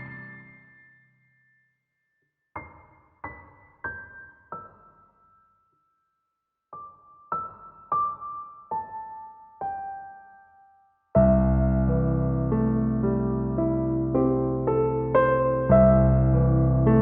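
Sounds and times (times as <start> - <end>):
slow piano music: 0.0 - 1.5, 2.6 - 5.9, 6.7 - 17.0.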